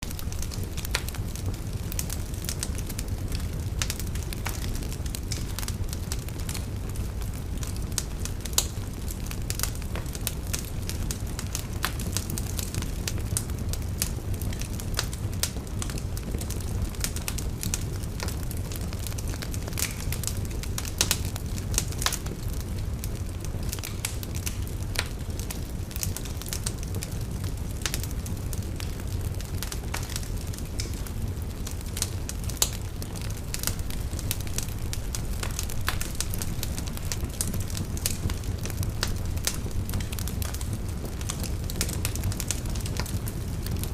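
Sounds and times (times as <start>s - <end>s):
fire crackling and popping: 0.0s - 43.9s
roar of flames: 0.0s - 43.9s.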